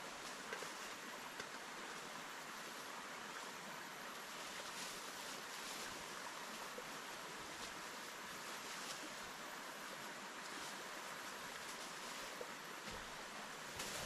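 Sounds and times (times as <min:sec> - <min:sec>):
river water flowing: 0:00.0 - 0:14.0.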